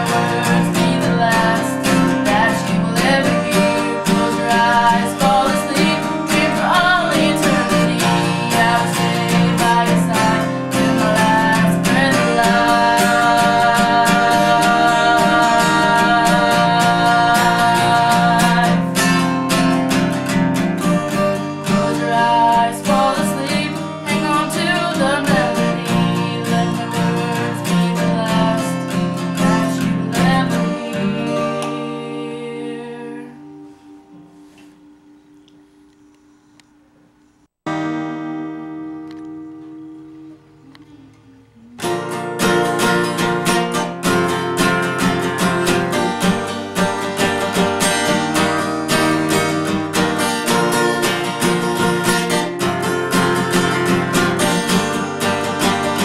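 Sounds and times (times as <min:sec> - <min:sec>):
person singing: 0:00.0 - 0:20.1, 0:20.7 - 0:33.6, 0:39.7 - 0:56.0
acoustic guitar strumming: 0:00.0 - 0:36.4, 0:37.7 - 0:56.0.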